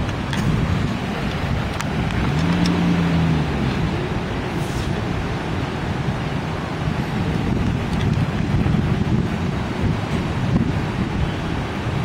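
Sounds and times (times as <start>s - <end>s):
rushing river water: 0.0s - 12.0s
wind buffeting microphone: 0.0s - 12.0s.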